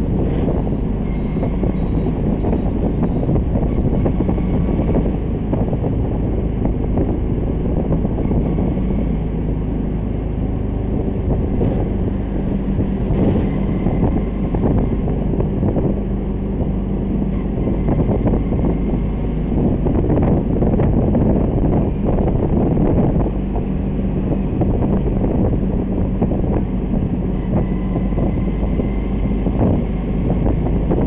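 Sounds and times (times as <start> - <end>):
engine and tyre rumble: 0.0 - 31.0
wind buffeting microphone: 0.0 - 31.0.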